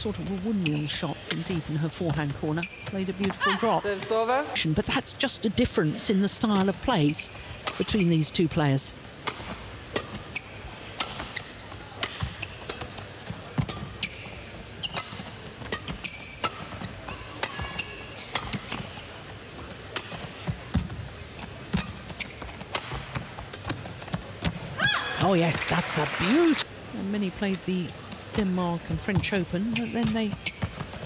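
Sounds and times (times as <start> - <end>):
shoes squeaking on court floor: 0.0 - 4.6, 5.8 - 26.6, 27.6 - 31.0.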